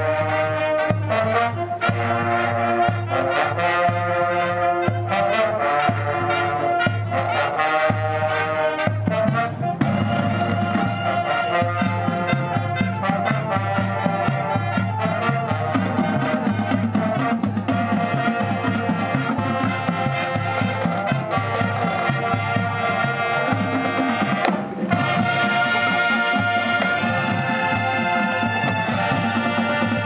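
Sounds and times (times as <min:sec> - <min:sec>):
marching band playing: 0:00.0 - 0:30.0.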